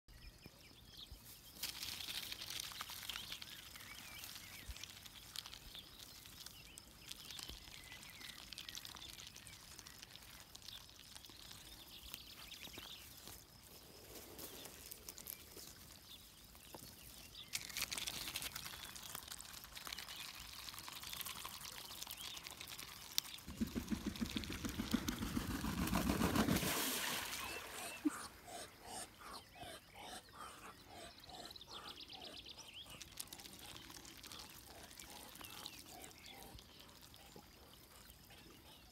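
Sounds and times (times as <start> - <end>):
ducks pecking in grass: 1.2 - 29.0, 32.6 - 38.8.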